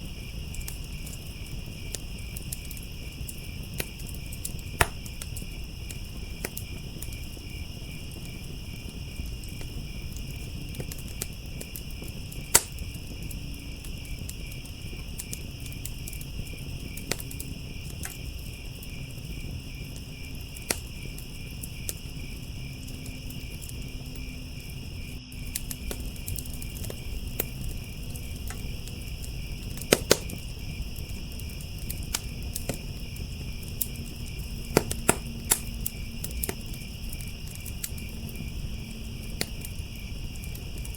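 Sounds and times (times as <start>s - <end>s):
crickets chirping: 0.0s - 40.9s
wood fire crackling: 0.0s - 40.9s.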